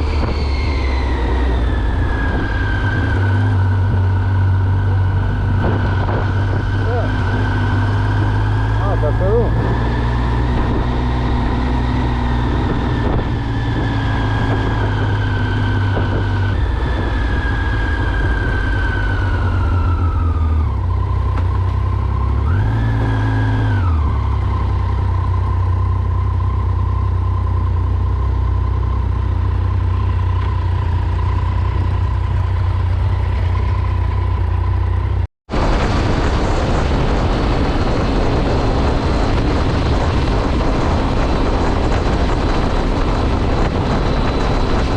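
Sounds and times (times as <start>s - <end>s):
wind noise: 0.0s - 25.6s, 30.7s - 33.6s, 35.5s - 44.9s
motorcycle engine decelerating: 0.0s - 44.9s.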